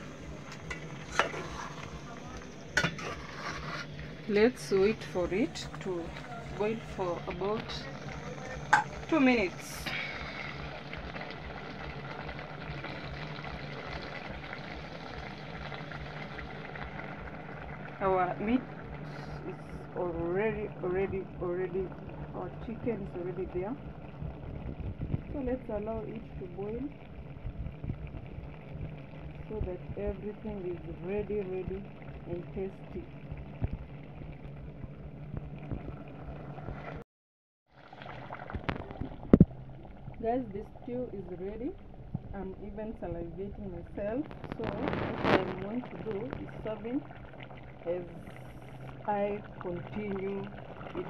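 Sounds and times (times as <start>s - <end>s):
low hum: 0.0s - 37.0s, 38.0s - 51.0s
stew bubbling in a pot: 0.0s - 37.0s, 37.7s - 51.0s.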